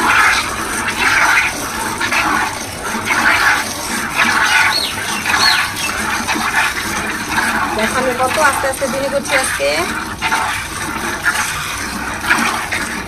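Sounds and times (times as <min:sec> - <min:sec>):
milk squirting into plastic bucket: 0:00.0 - 0:13.0.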